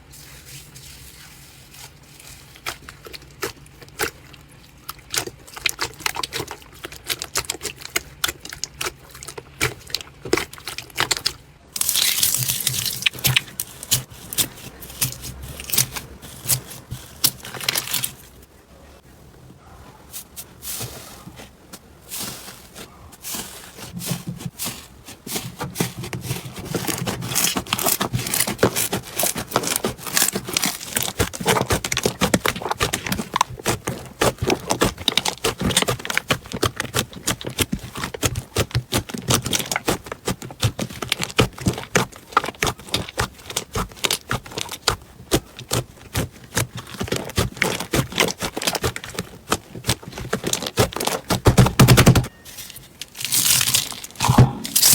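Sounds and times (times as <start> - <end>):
slime crackling and popping: 2.2 - 18.4, 25.4 - 54.9.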